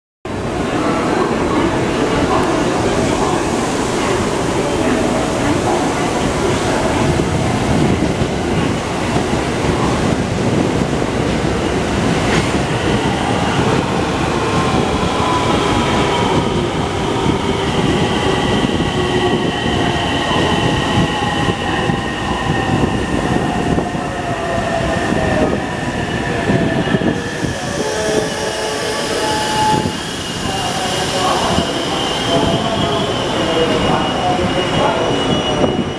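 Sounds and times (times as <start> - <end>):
train wheels rumbling on rails: 0.3 - 35.9.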